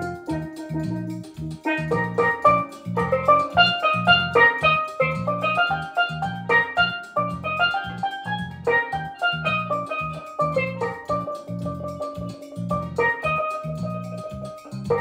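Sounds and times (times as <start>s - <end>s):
low rhythmic bass: 0.0s - 15.0s
steel pan melody: 0.0s - 15.0s.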